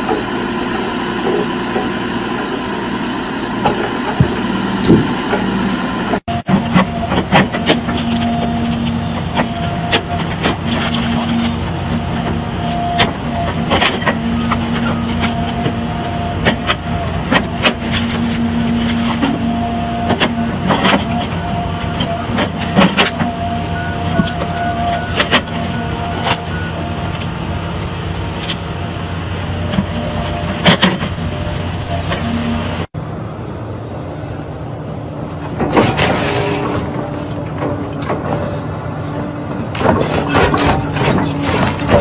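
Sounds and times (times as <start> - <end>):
heavy engine running with whine: 0.0 - 42.0.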